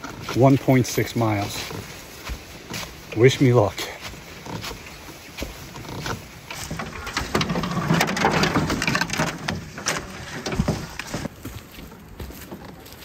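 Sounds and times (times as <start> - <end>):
footsteps crunching dry leaves: 0.0 - 8.0, 9.6 - 13.0.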